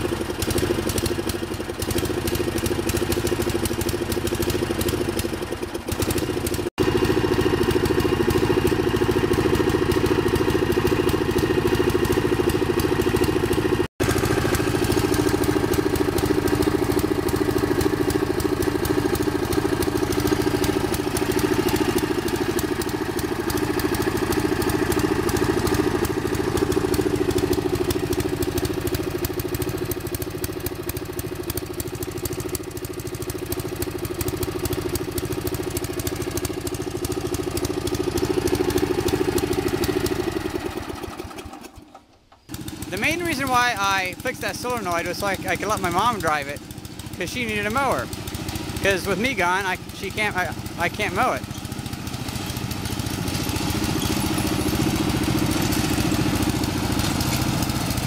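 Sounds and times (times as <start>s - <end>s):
lawn mower engine idling: 0.0s - 58.0s.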